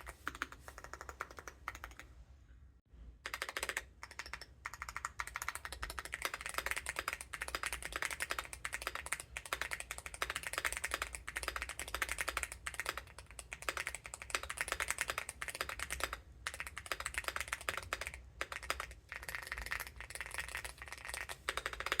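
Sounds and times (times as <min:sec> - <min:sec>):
fast keyboard typing: 0:00.0 - 0:02.1, 0:03.2 - 0:22.0.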